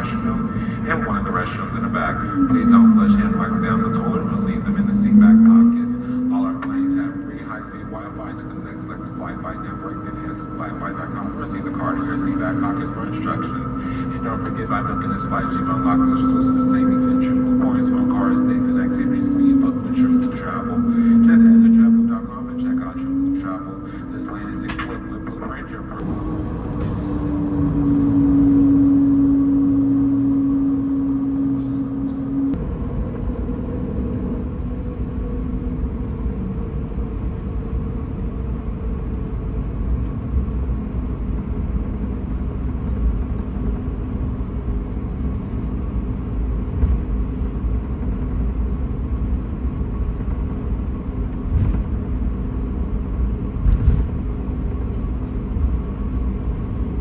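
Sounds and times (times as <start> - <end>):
airliner cabin rumble: 0.0 - 57.0
steady hum: 0.0 - 57.0.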